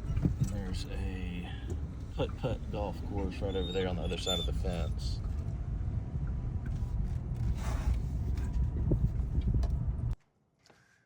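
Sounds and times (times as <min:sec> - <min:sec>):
car road and engine rumble: 0:00.0 - 0:10.2.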